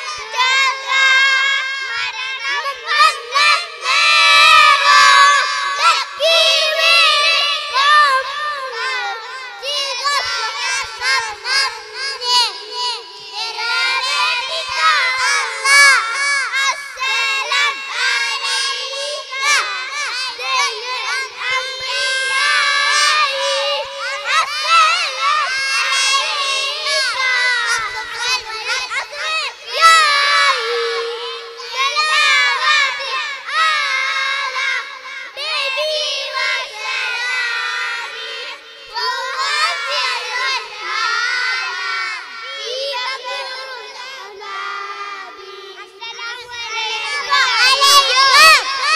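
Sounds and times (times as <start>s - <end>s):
children singing together: 0.0s - 48.9s.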